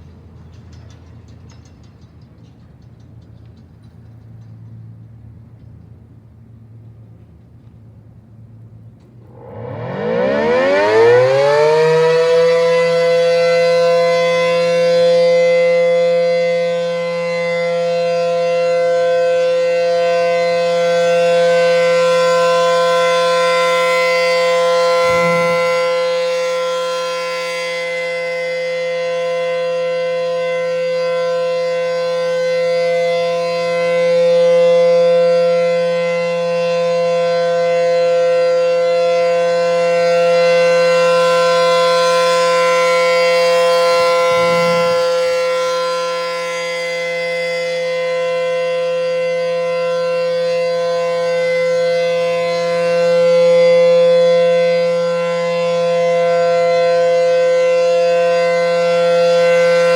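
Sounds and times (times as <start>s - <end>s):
warning siren winding up: 9.0s - 59.9s.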